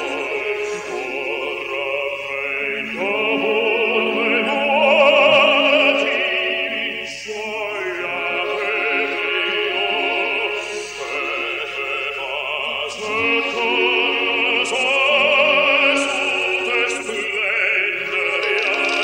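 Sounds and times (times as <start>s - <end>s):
orchestra playing: 0.0s - 12.0s, 12.9s - 19.0s
operatic singing: 0.0s - 19.0s.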